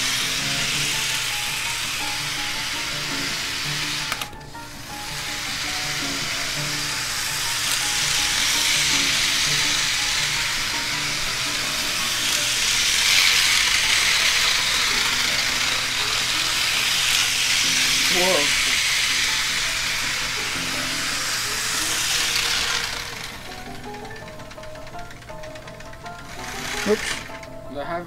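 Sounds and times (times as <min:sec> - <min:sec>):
background music: 0:00.0 - 0:28.0
model train running on track: 0:00.0 - 0:28.0.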